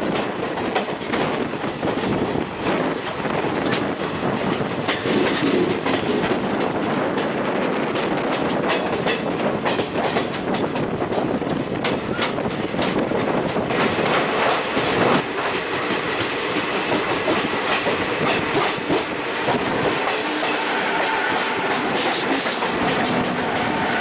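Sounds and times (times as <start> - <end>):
clickety-clack of wheels: 0.0 - 24.0
train wheels rumbling on rail: 0.0 - 24.0.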